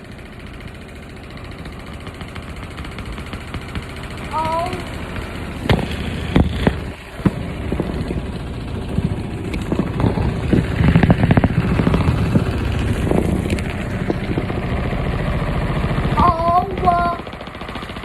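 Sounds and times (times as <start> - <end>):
washing machine rattling: 0.0 - 18.0.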